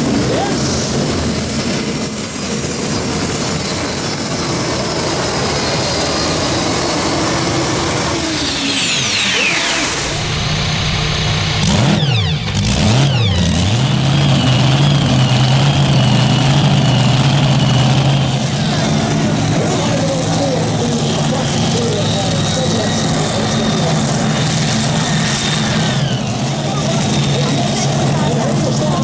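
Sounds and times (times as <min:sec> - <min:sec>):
engine idling and revving: 0:00.0 - 0:29.0
tractor engine whine: 0:00.0 - 0:29.0.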